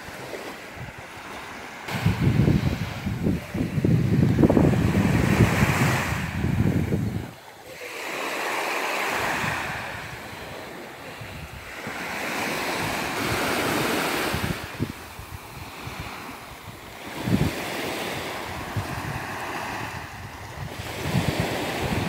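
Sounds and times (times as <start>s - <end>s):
small waves washing on shore: 0.0s - 22.0s
wind buffeting microphone: 0.1s - 7.5s, 9.1s - 22.0s.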